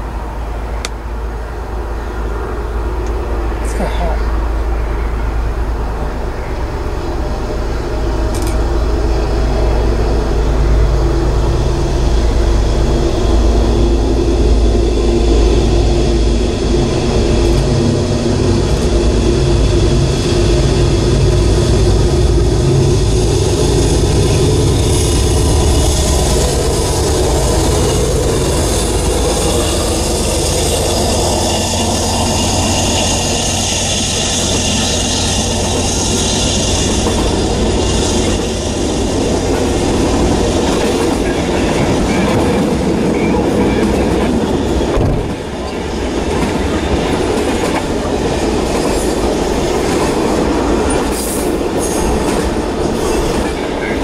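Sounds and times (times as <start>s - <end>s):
diesel locomotive engines rumbling: 0.0s - 54.0s
train cars rushing rail noise: 0.0s - 54.0s.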